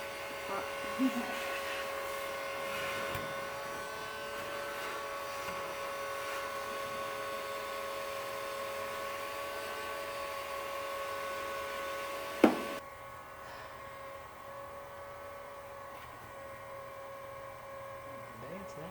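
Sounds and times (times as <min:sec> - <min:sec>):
heat gun motor whine and hiss: 0:00.0 - 0:18.9.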